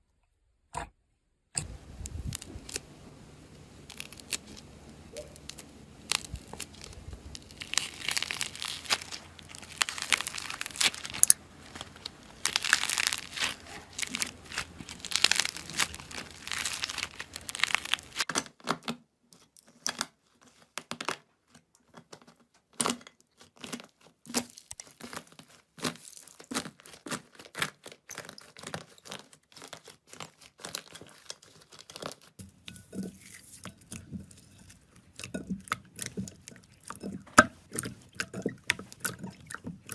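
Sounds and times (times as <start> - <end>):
slime crackling and popping: 1.6 - 18.3, 23.6 - 39.9.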